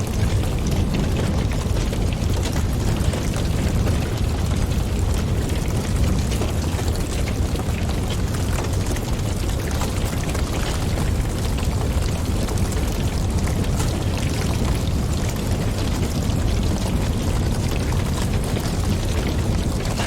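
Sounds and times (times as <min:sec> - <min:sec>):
wind: 0:00.0 - 0:20.0
wood fire crackling: 0:00.0 - 0:20.0.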